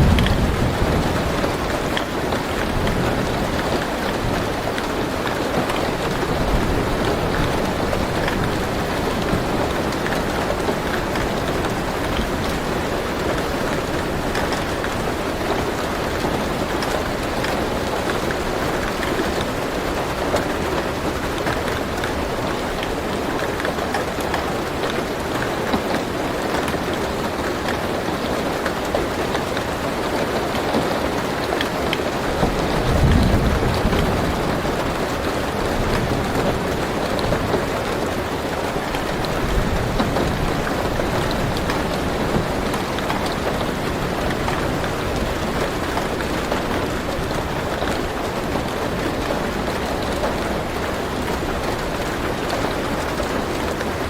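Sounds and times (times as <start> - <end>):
rain on a car roof: 0.0 - 54.0.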